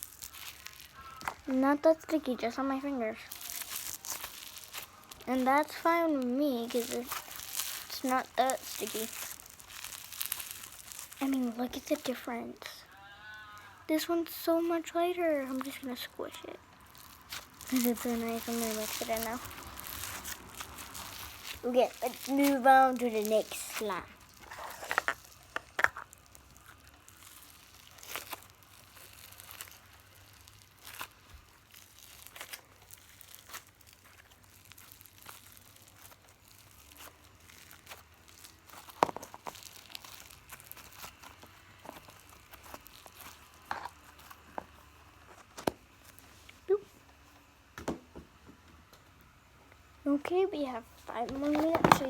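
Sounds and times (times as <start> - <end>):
plastic packaging crinkling and tearing: 0.0 - 46.7, 50.6 - 52.0.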